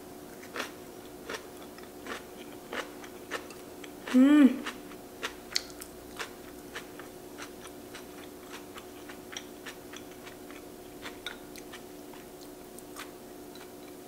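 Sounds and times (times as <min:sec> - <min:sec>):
steady low hum: 0:00.0 - 0:14.0
person chewing: 0:00.3 - 0:14.0.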